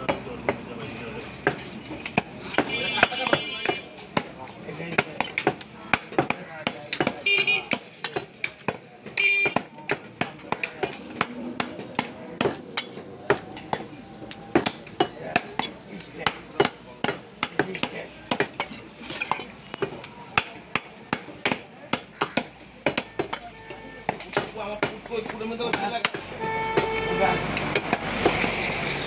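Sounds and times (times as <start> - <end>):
cleaver chopping meat on wood: 1.4 - 18.8, 19.6 - 28.4.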